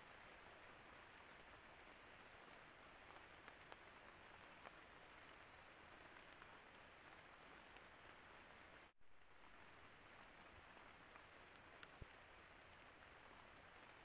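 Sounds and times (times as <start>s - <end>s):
faint ticks: 0.0s - 14.0s
hissing forest background: 0.0s - 14.0s.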